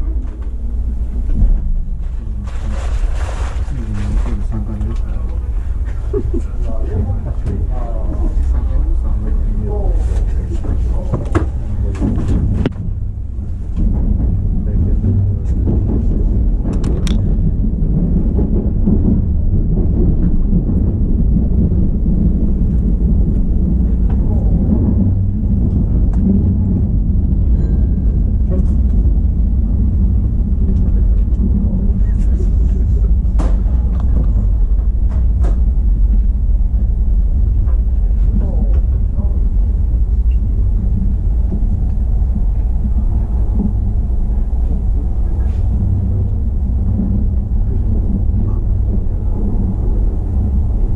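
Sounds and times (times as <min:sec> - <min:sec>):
train rumbling in tunnel: 0:00.0 - 0:50.9.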